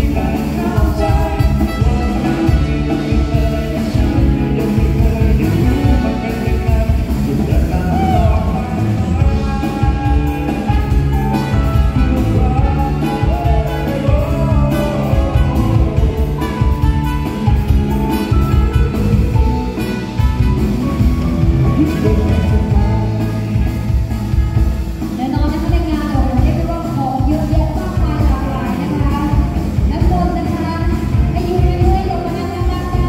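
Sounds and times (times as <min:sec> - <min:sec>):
live band playing: 0:00.0 - 0:33.0.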